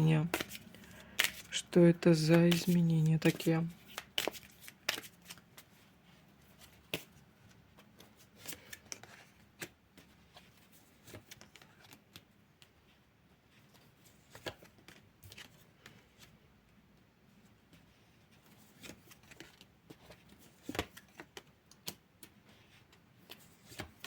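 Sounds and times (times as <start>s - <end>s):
cards being shuffled: 0.1s - 5.8s, 6.4s - 12.8s, 13.6s - 16.4s, 18.3s - 24.0s.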